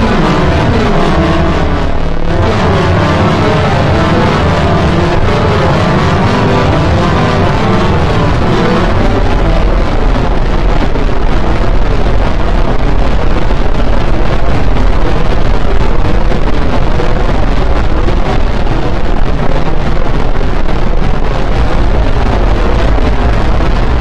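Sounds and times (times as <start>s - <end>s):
distorted harsh noise music: 0.0s - 24.0s.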